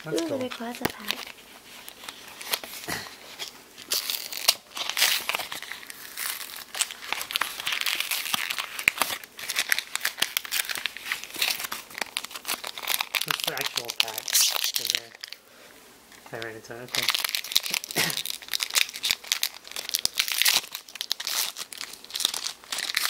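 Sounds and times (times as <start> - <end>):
plastic and foil packaging crinkling: 0.0 - 15.5, 16.1 - 23.0.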